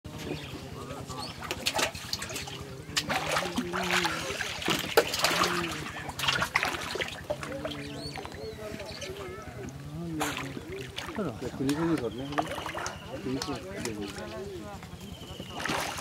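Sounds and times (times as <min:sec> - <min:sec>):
water splashing and dripping: 0:01.4 - 0:14.6, 0:15.4 - 0:16.0.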